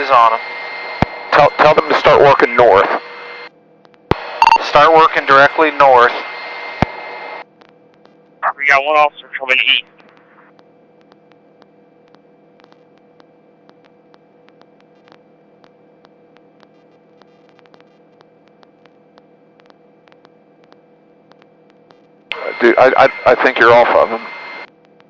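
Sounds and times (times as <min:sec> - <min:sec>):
faint electrical hum and static: 0:00.0 - 0:25.0.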